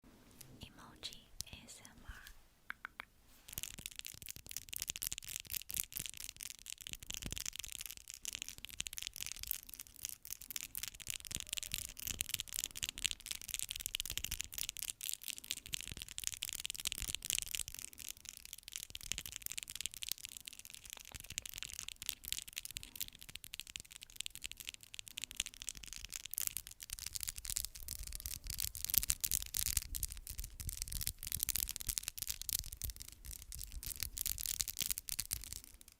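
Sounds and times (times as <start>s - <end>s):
rapid asmr tapping clicks: 2.7s - 35.9s.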